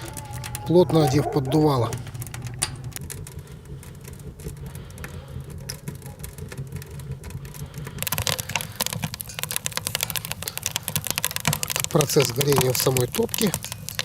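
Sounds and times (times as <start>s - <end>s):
stove low rumble: 0.0s - 14.0s
wood fire crackling and popping: 0.0s - 14.0s.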